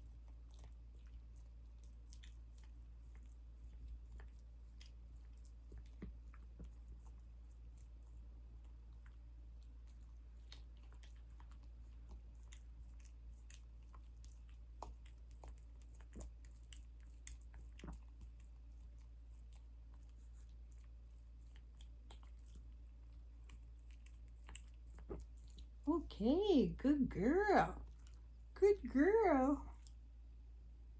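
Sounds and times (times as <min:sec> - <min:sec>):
dog licking and smacking: 0:00.0 - 0:25.8, 0:27.7 - 0:28.6, 0:29.7 - 0:30.3
low steady hum: 0:00.0 - 0:30.9.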